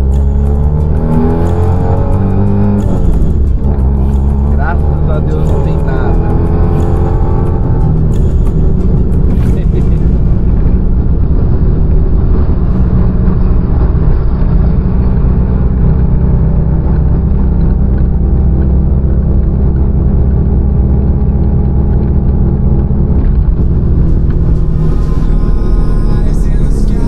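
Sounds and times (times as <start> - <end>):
car engine droning: 0.0 - 27.0.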